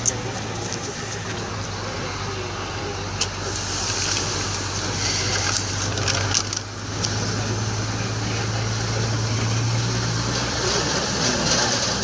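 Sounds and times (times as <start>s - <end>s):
vehicle engine drone and road noise: 0.0s - 12.0s.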